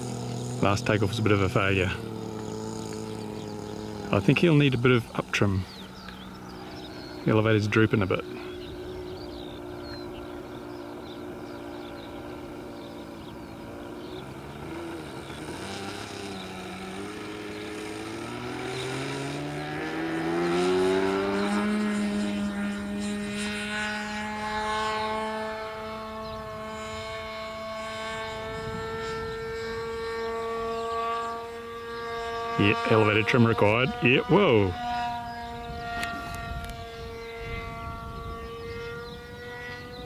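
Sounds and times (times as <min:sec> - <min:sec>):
model plane engine revving: 0:00.0 - 0:40.0.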